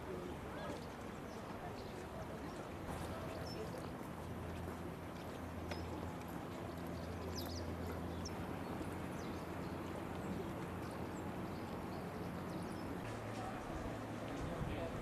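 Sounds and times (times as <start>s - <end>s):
small birds chirping: 0.5s - 14.5s.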